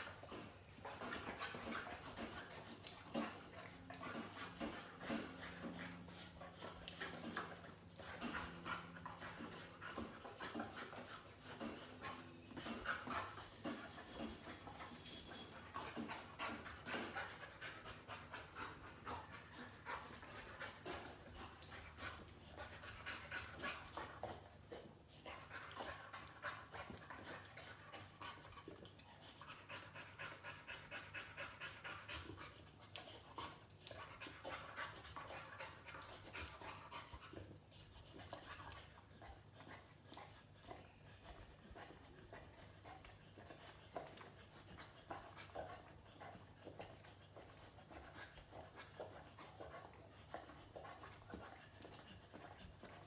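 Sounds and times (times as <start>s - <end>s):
dog panting: 0.0s - 53.0s.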